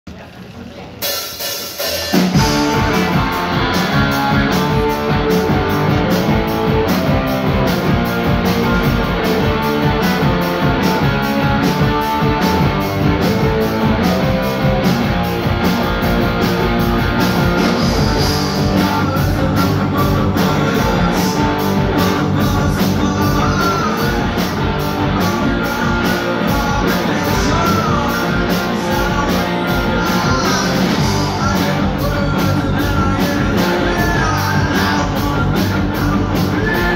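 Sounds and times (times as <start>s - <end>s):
rock band playing: 1.0s - 36.9s
person singing: 1.7s - 14.1s, 17.4s - 36.9s.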